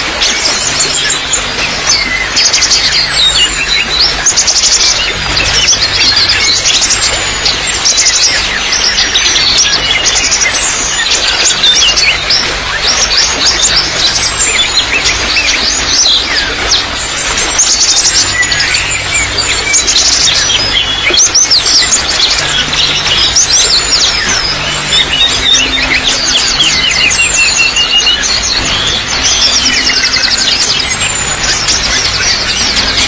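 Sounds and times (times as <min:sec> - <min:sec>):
small birds chirping: 0:00.0 - 0:33.0
water trickling: 0:00.0 - 0:33.0.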